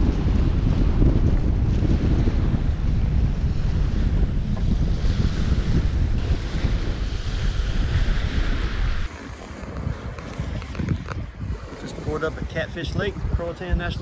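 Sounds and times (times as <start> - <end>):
choppy lake waves: 0.0 - 14.0
wind buffeting microphone: 0.0 - 14.0.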